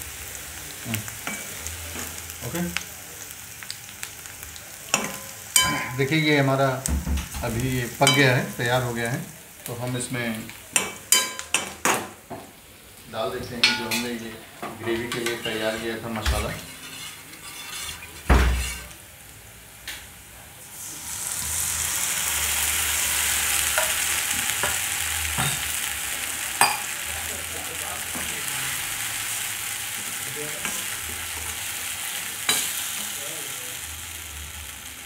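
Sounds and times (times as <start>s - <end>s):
wok sizzling: 0.0s - 35.0s.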